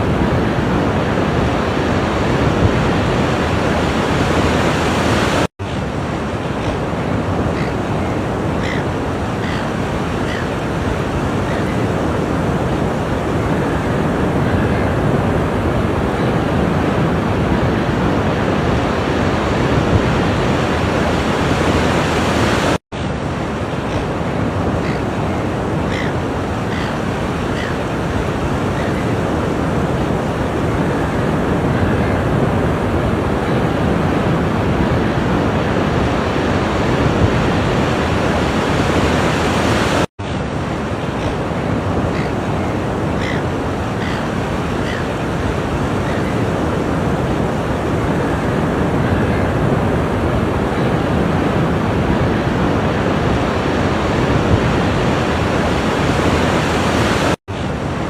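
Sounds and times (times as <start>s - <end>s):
waves washing on shore: 0.0s - 58.0s.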